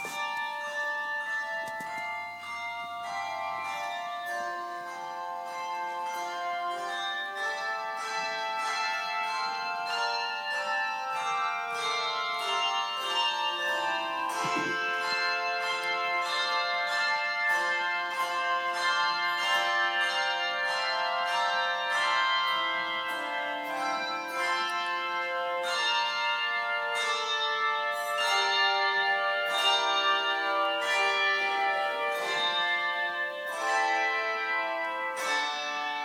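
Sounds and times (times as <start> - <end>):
handbell choir playing: 0.0 - 36.0.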